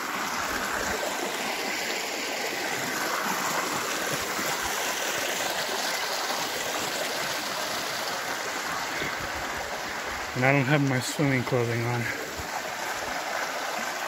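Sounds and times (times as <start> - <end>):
creek water running over rock: 0.0 - 14.0.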